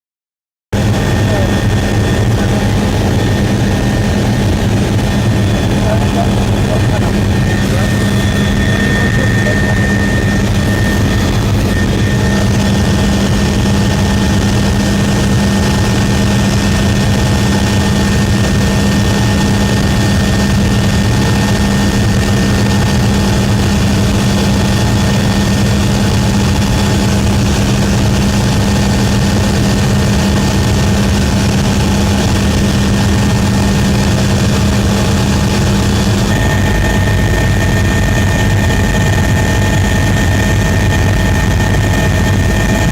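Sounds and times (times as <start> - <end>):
aircraft engine drone: 0.8 - 42.9.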